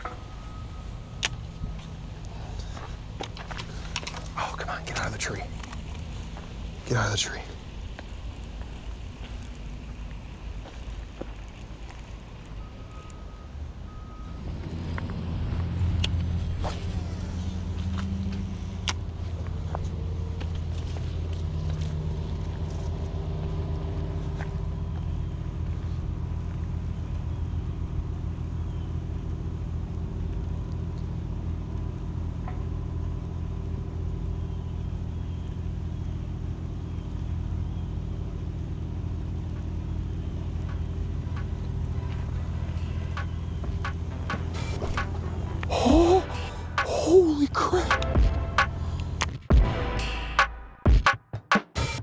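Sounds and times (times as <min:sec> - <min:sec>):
steady low rumble: 0:00.0 - 0:50.4.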